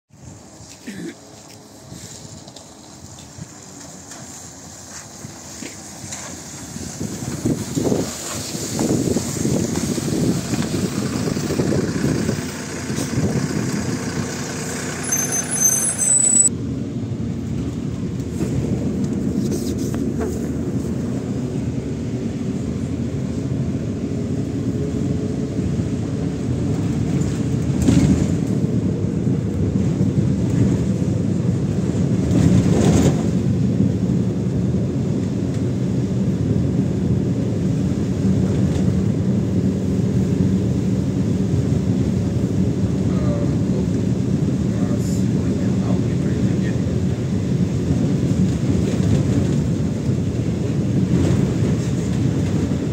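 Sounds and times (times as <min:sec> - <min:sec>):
bus diesel engine: 0:00.1 - 0:52.9.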